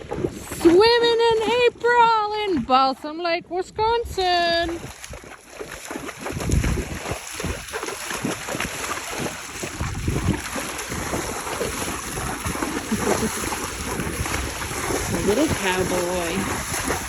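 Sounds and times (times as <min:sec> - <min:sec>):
hooves splashing in water: 0:00.0 - 0:17.0
wind on microphone: 0:00.0 - 0:17.0.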